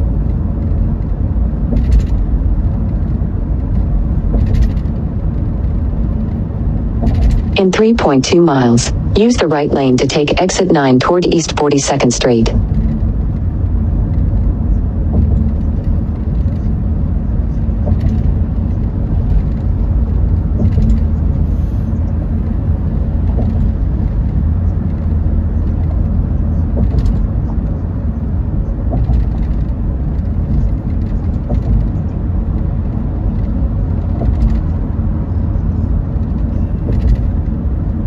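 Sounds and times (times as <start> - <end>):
car driving at highway speed: 0.0 - 10.6, 11.4 - 38.0.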